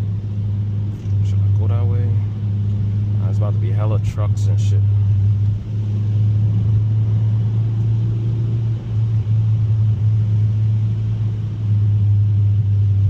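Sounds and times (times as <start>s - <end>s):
car engine and exhaust drone: 0.0s - 13.0s
road noise: 0.0s - 13.0s.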